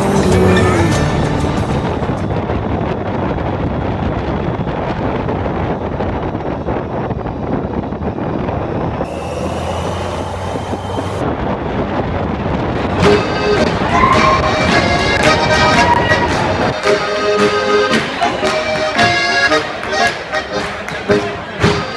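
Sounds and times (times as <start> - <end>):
wind noise on microphone: 0.0 - 21.9.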